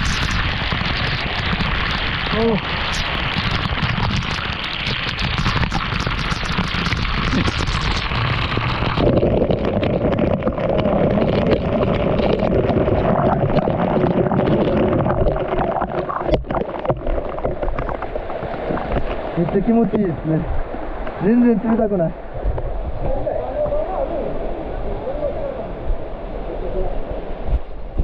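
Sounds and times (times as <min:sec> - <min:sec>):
waterfall rushing: 0:00.0 - 0:27.4.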